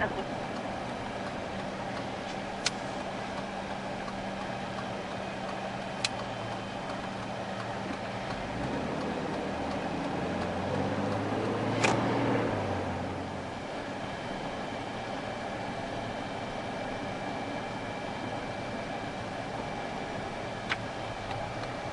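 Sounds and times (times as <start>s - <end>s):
car engine and road noise: 0.0s - 21.9s.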